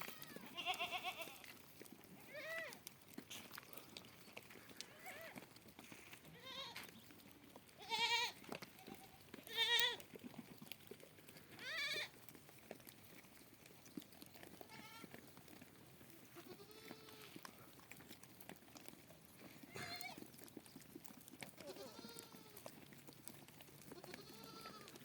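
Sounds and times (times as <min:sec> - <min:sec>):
goats and sheep bleating: 0:00.0 - 0:25.0.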